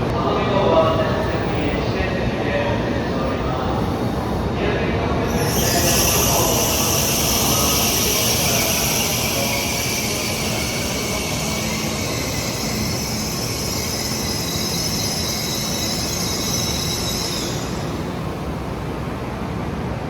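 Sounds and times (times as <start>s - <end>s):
bullet train rumbling and hissing: 0.0s - 20.0s.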